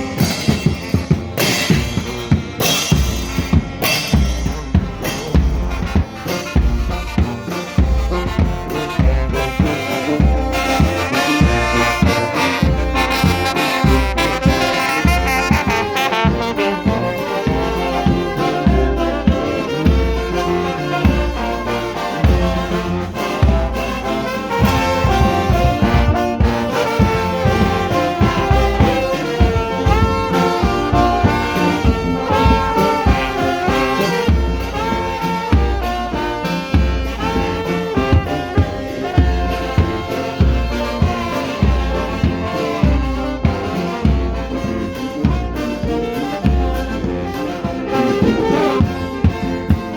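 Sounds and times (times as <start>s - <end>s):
brass band playing: 0.0s - 49.9s.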